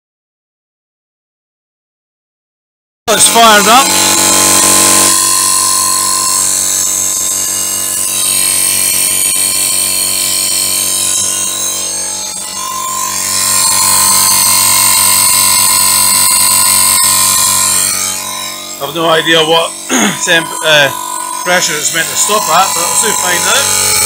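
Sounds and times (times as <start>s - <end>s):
air compressor running: 3.1s - 24.0s.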